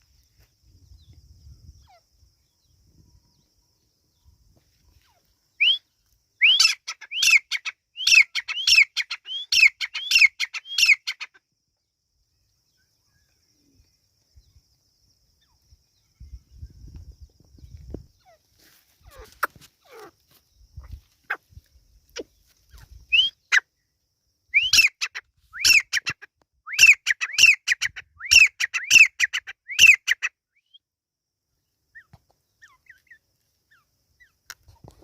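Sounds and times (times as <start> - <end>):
francolin calling: 0.0 - 14.6, 15.3 - 31.0, 31.6 - 35.0.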